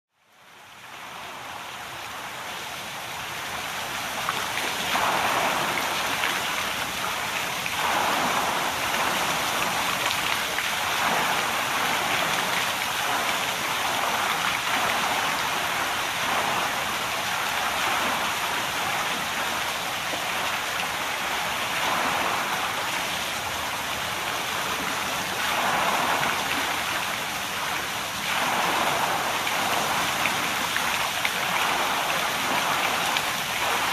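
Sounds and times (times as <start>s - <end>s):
rushing water: 0.2s - 33.9s.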